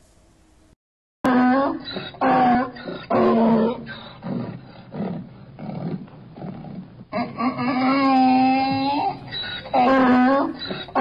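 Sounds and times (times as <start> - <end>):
donkey braying: 1.3 - 11.0.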